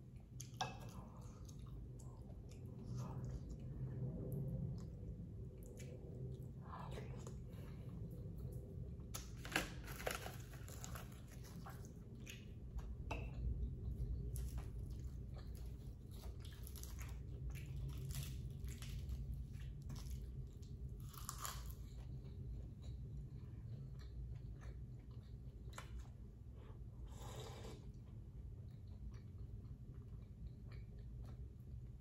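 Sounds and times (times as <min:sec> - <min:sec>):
chewing with crunches: 0:00.0 - 0:32.0
low steady hum: 0:00.0 - 0:32.0.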